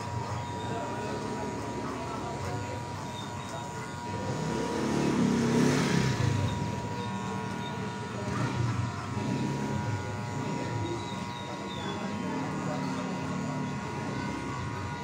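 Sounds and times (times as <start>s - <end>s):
electric hair clippers buzzing: 0.0s - 15.0s
street traffic: 0.0s - 15.0s.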